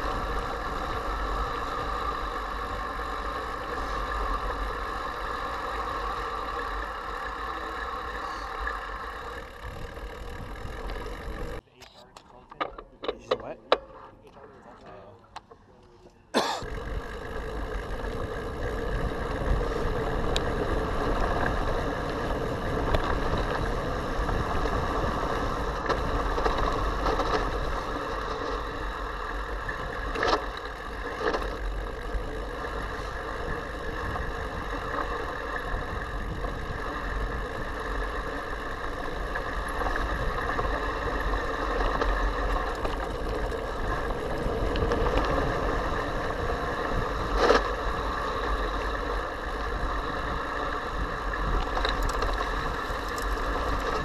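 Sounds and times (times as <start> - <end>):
bike tyres rolling on dirt: 0.0 - 11.6, 16.6 - 54.0.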